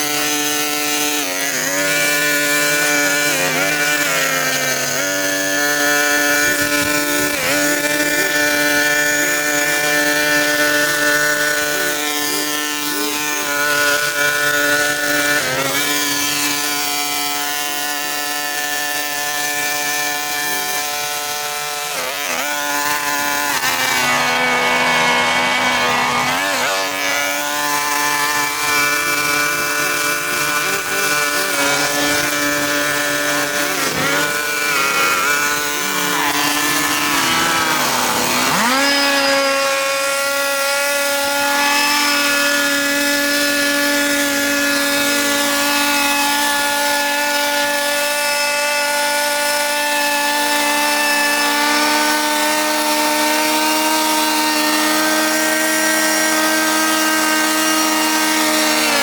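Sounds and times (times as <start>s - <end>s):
power tool engine running: 0.0s - 59.0s.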